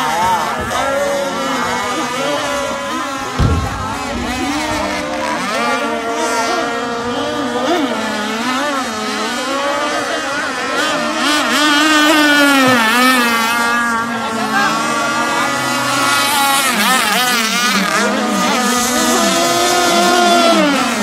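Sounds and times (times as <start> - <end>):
racing boat engines revving: 0.0 - 21.0.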